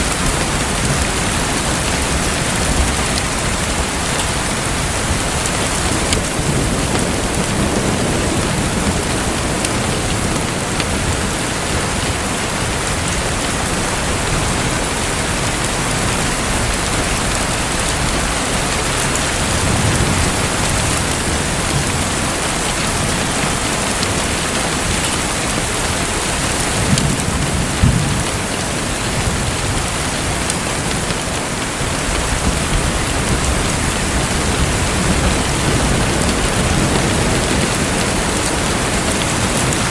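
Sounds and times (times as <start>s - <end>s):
steady rushing water: 0.0s - 39.9s.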